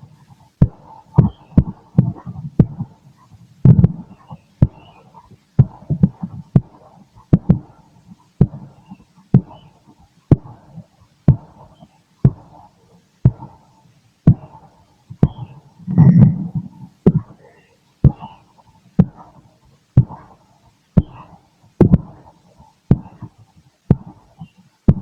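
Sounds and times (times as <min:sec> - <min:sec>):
heartbeat through stethoscope: 0:00.0 - 0:17.4, 0:18.0 - 0:25.0.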